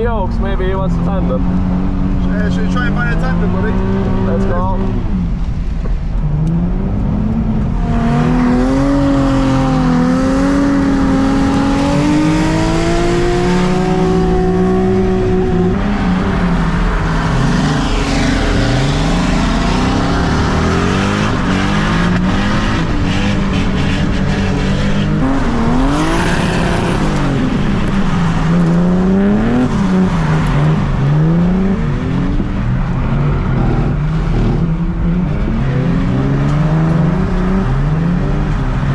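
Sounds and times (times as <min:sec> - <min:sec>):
car engine revving at high revs: 0:00.0 - 0:38.9
tyre and road noise: 0:00.0 - 0:38.9.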